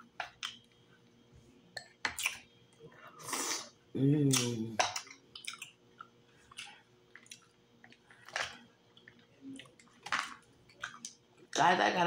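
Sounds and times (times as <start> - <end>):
wet chewing with mouth clicks: 0.0 - 1.1, 1.8 - 2.5, 3.3 - 11.6.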